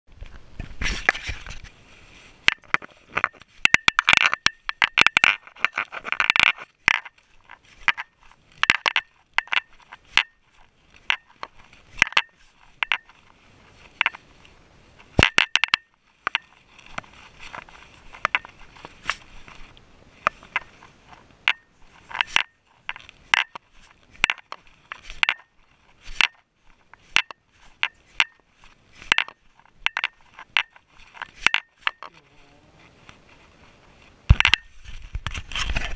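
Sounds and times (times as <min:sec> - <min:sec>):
rustling handling noise: 0:00.1 - 0:35.9
sharp clicks and knocks: 0:02.4 - 0:13.3, 0:14.0 - 0:14.2, 0:15.0 - 0:32.2, 0:34.3 - 0:35.9
camera housing rattling: 0:02.4 - 0:14.3, 0:15.0 - 0:32.2, 0:34.3 - 0:35.9.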